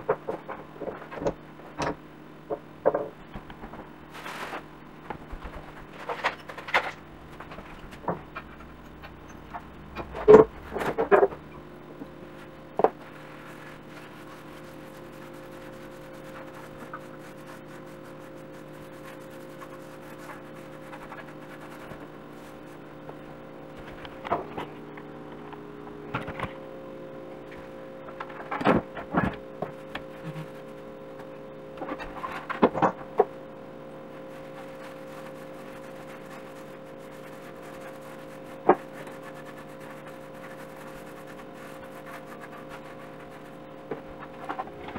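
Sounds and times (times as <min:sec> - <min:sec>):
steady hum of held tones: 0:00.0 - 0:44.9.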